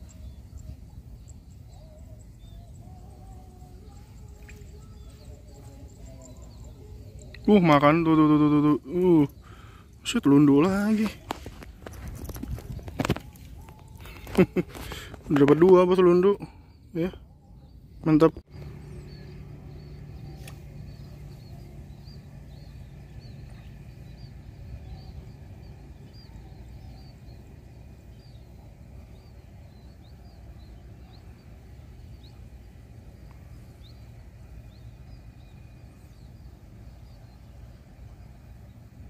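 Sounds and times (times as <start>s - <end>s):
steady low rumble: 0.0s - 15.4s, 16.5s - 39.0s.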